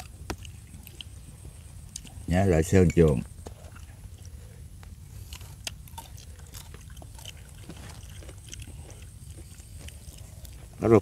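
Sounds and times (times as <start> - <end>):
chewing: 0.0 - 2.2, 2.9 - 11.0
steady low rumble: 0.0 - 11.0.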